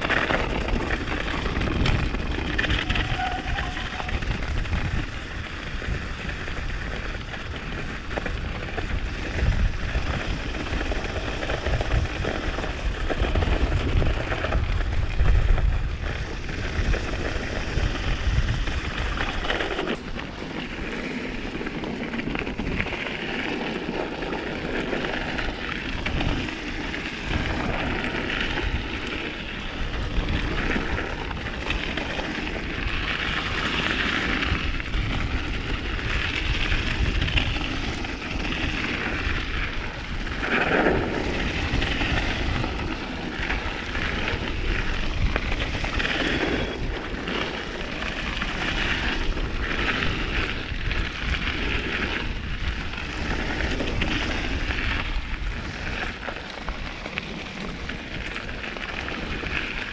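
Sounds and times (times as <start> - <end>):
bike tyres rolling over icy ground: 0.0 - 59.9
wind rushing on microphone: 0.0 - 59.9.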